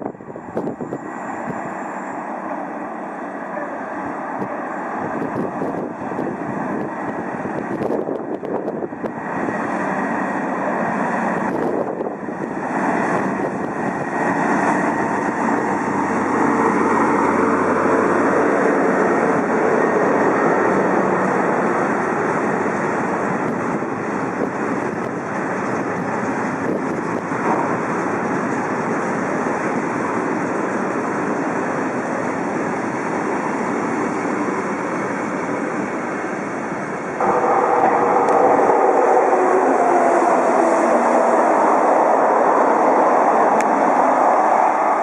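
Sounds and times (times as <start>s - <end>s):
electric locomotive passing: 0.0s - 45.0s
locomotive whine: 0.0s - 45.0s
train wheels rumbling on rails: 0.0s - 45.0s.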